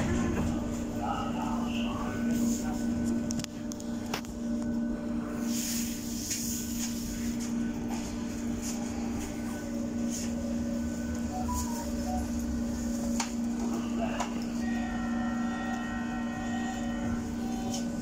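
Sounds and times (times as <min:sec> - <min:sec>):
steady low hum: 0:00.0 - 0:18.0
train electric motor whine: 0:00.0 - 0:18.0.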